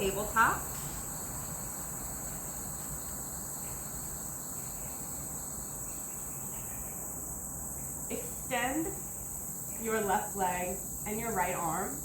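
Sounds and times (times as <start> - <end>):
high-pitched insect chorus: 0.0 - 12.0
low background noise: 0.0 - 12.0.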